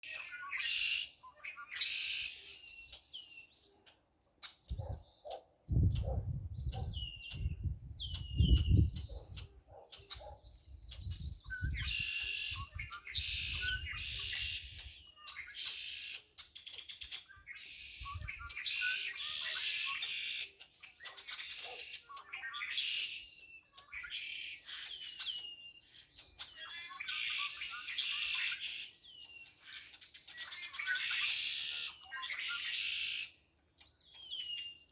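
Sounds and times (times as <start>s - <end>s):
wild birds chirping and calling: 0.0s - 34.9s.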